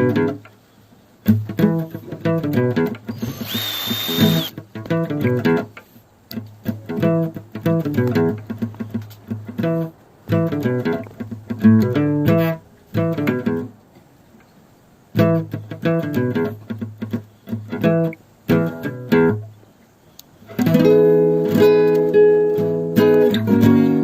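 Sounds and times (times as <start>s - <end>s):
acoustic guitar music: 0.0s - 0.6s, 1.2s - 14.0s, 15.1s - 19.6s, 20.4s - 24.0s.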